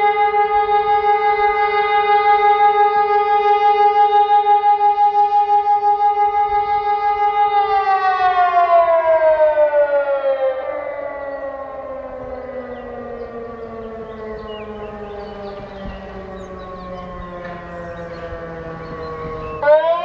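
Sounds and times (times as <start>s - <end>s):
civil defence siren: 0.0s - 20.0s.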